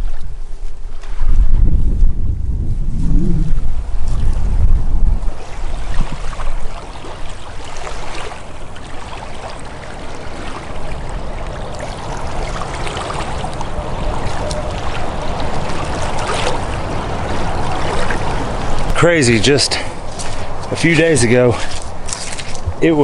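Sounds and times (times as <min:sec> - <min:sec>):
river water rippling: 0:00.0 - 0:23.0
wind on microphone: 0:00.0 - 0:23.0.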